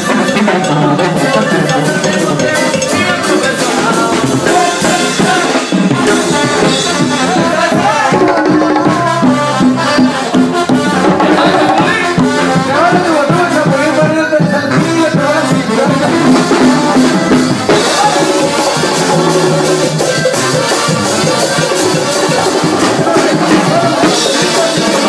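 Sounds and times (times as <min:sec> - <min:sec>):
brass band playing: 0:00.0 - 0:25.0
conga drum: 0:00.0 - 0:25.0.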